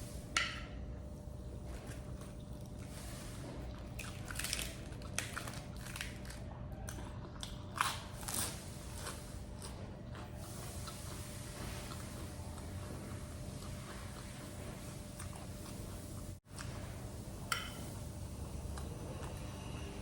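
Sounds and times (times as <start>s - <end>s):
person chewing food: 1.5s - 17.0s, 17.8s - 20.0s.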